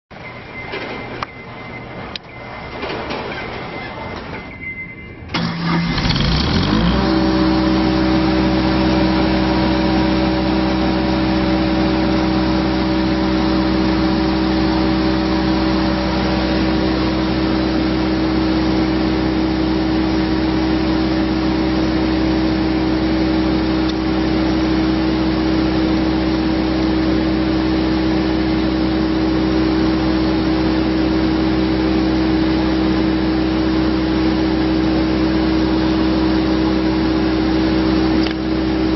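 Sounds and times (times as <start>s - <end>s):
diesel engine starting and running: 0.1s - 38.9s.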